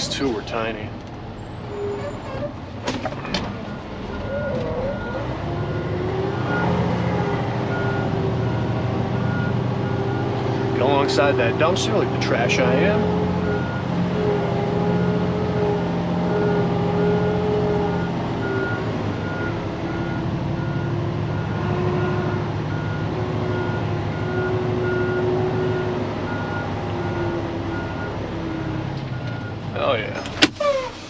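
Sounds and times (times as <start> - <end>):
diesel engine running: 0.0 - 31.0
truck backup alarm beeping: 3.0 - 31.0.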